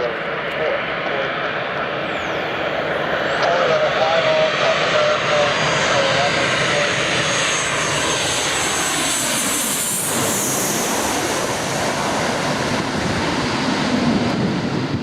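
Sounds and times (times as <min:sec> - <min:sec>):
jet engines roaring and whining: 0:00.0 - 0:15.0.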